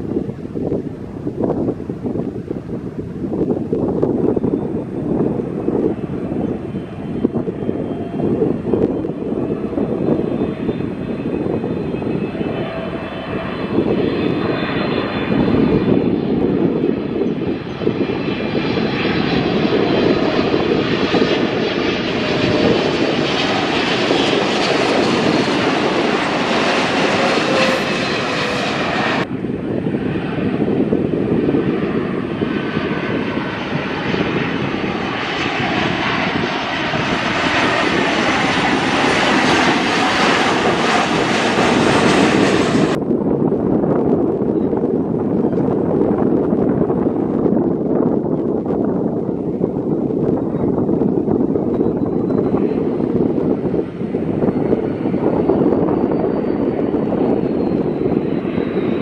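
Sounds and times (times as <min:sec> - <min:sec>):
jet airliner engines roaring: 0:00.0 - 0:59.0.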